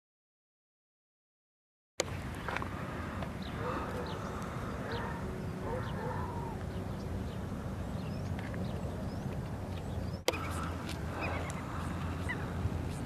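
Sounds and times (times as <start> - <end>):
low wind rumble: 2.0 - 13.0.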